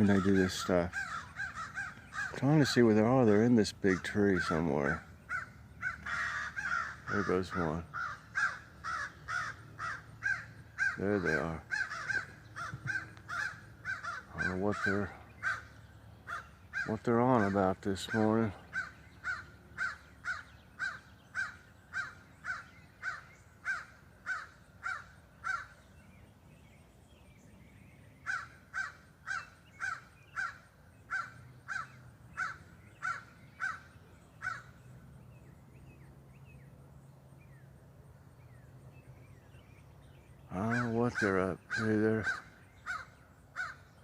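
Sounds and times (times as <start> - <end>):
crows cawing: 0.0 - 25.9, 28.2 - 34.8, 40.5 - 44.0.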